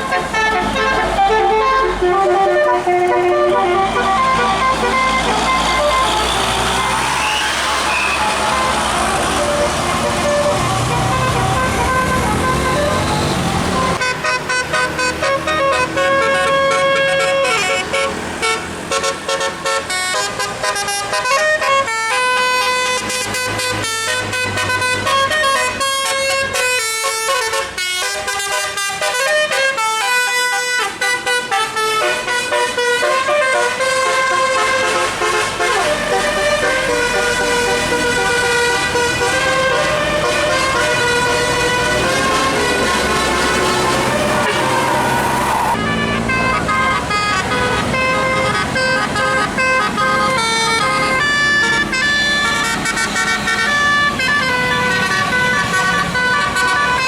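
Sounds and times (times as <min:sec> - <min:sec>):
engine and road noise: 0:00.0 - 0:57.0
multi-tone bus horn melody: 0:00.0 - 0:57.0.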